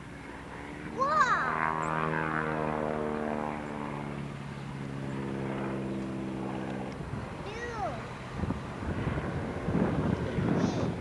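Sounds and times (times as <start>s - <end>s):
propeller airplane flying past: 0.0s - 11.0s.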